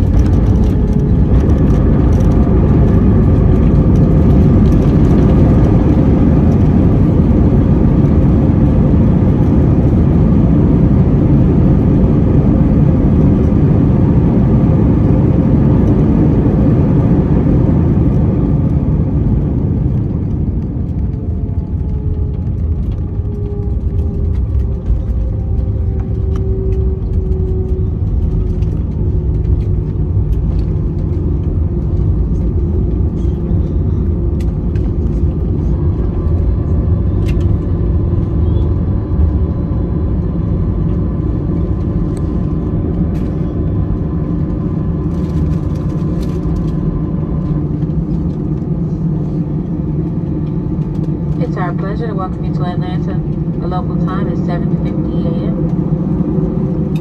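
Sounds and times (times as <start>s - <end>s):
engine whine gliding down: 0.0s - 57.0s
jet engine roar in cabin: 0.0s - 57.0s.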